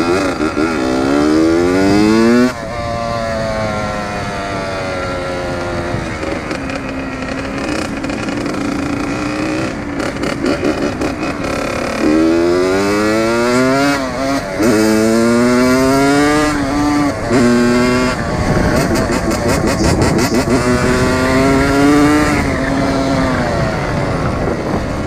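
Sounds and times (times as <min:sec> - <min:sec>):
dirt bike engine revving: 0:00.0 - 0:25.0
wind noise on microphone: 0:00.0 - 0:25.0.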